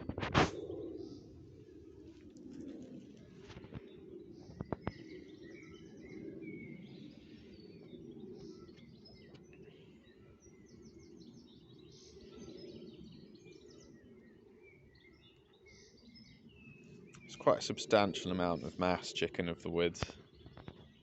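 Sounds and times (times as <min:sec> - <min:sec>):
songbirds chirping: 0:00.1 - 0:21.0.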